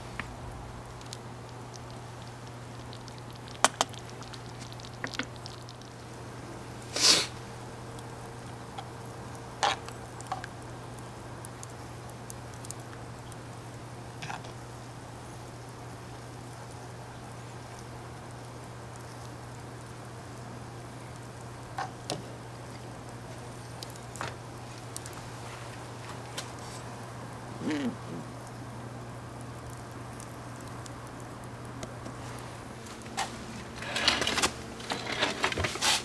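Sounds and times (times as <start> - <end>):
low steady hum: 0.0 - 35.7.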